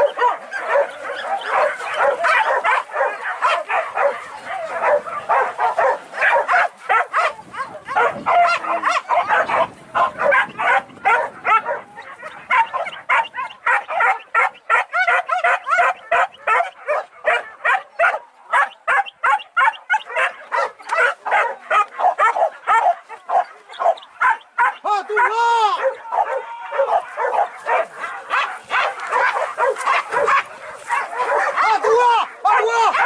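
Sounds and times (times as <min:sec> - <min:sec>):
dogs barking and yelping: 0:00.0 - 0:33.0.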